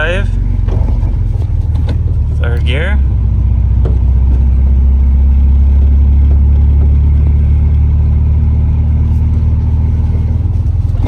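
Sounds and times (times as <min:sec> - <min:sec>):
car engine low hum: 0:00.0 - 0:11.0.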